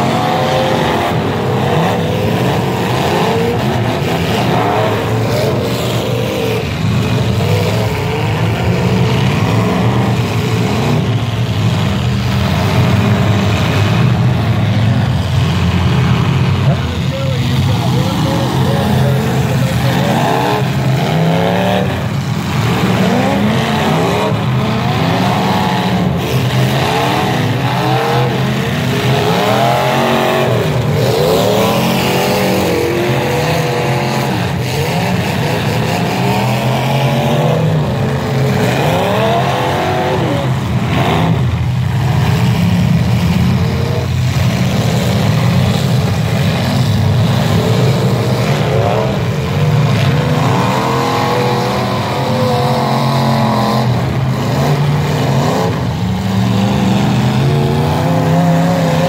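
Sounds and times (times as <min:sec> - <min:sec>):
car engines revving hard: 0:00.0 - 0:59.0.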